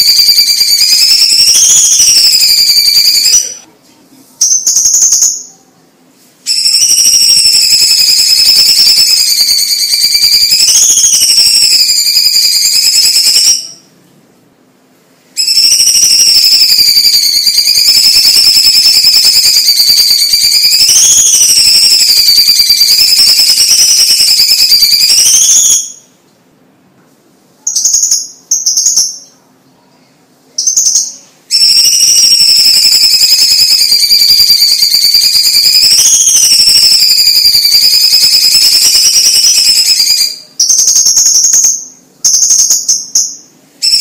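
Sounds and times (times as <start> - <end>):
bird singing trilling whistle: 0.0 - 3.6, 4.4 - 5.6, 6.5 - 13.9, 15.4 - 26.1, 27.7 - 29.4, 30.6 - 44.0.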